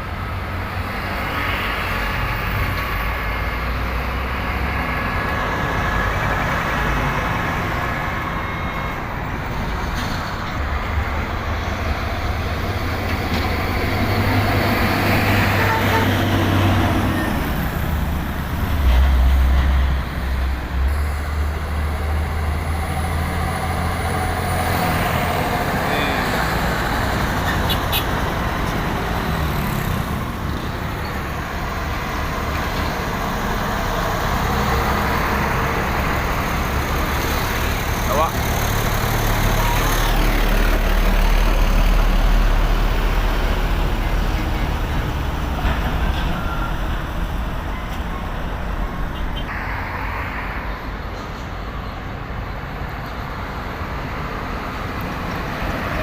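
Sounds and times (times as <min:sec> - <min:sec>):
diesel trucks passing: 0:00.0 - 0:56.0.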